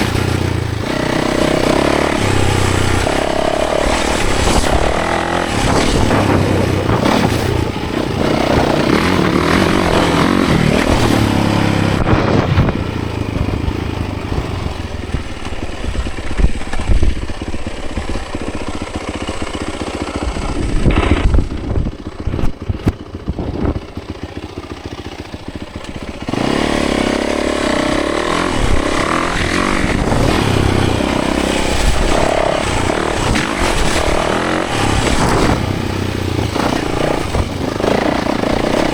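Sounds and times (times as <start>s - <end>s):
bike rattling over bumps: 0.0s - 38.9s
dirt bike engine: 0.0s - 38.9s.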